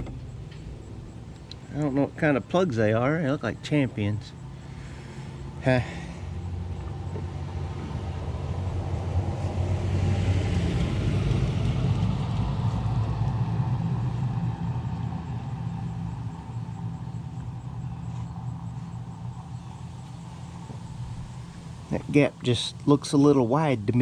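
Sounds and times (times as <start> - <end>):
low engine-like hum: 0.0 - 24.0
motor vehicle passing by: 4.4 - 24.0.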